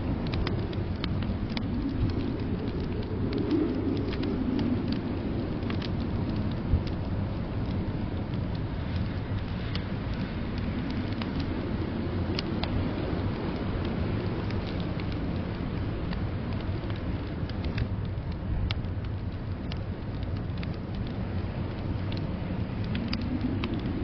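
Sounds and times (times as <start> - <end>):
low rumble of blizzard wind: 0.0 - 24.0
wood fire crackling and popping: 0.0 - 24.0.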